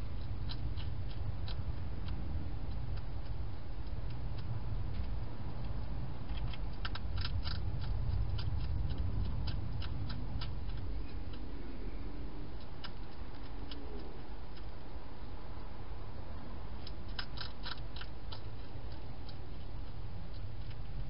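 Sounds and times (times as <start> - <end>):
hedgehog crunching dry food: 0.0 - 21.0
steady low rumble: 0.0 - 21.0.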